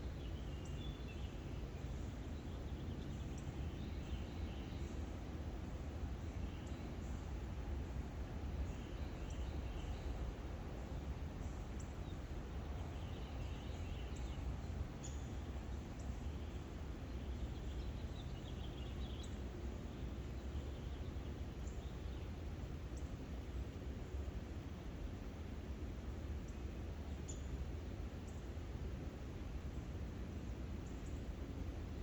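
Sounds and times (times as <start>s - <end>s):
low background noise: 0.0s - 32.0s.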